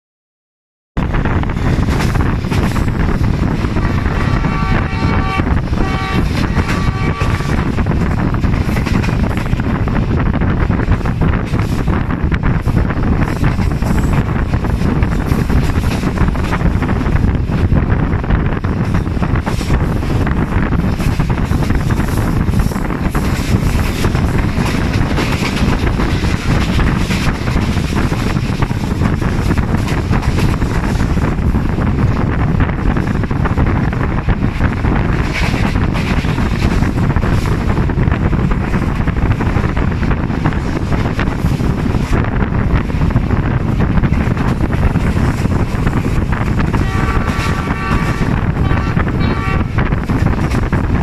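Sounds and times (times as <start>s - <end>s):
train running rumble: 1.0s - 51.0s
wind rushing over microphone: 1.0s - 51.0s.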